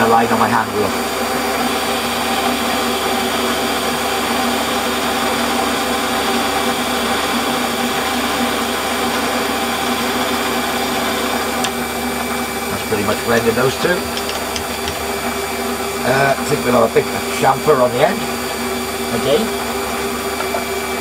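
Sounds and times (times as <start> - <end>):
metal lathe humming: 1.0 - 21.0.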